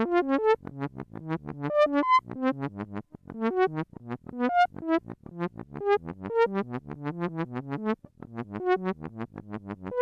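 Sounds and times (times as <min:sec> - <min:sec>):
low synthesizer notes: 0:00.0 - 0:10.0.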